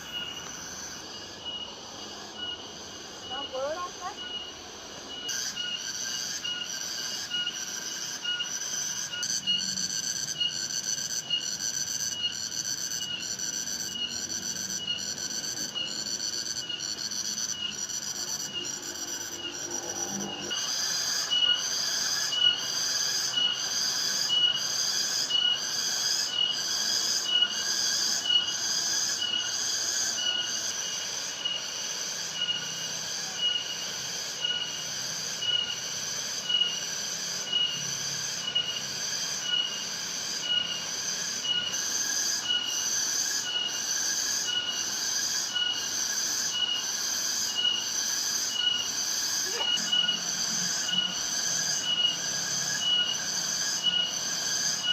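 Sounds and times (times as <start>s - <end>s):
insects calling in pulses: 0.0s - 54.9s.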